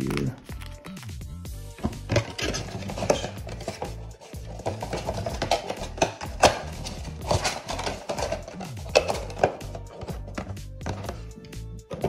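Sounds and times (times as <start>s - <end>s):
background music: 0.0s - 12.0s
card packs handled on table: 0.0s - 12.0s.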